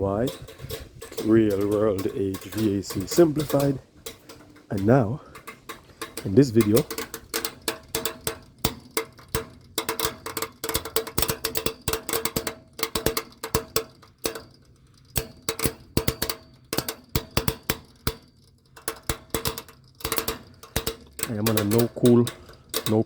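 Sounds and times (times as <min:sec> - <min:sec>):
contactor clicking rapidly: 0:00.0 - 0:14.5, 0:18.8 - 0:23.0.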